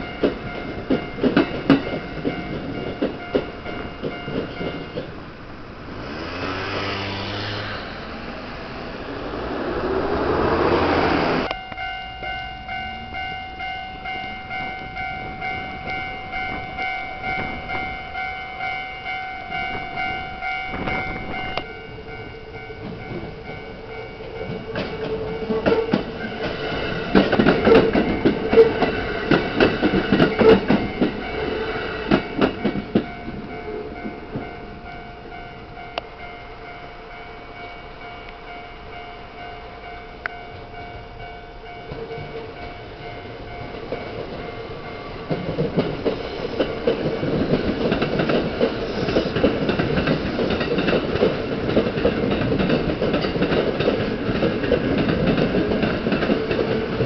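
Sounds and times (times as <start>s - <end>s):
level crossing bells ringing: 0.0s - 5.4s, 11.4s - 57.0s
train wheels clattering: 0.0s - 36.3s, 40.2s - 57.0s.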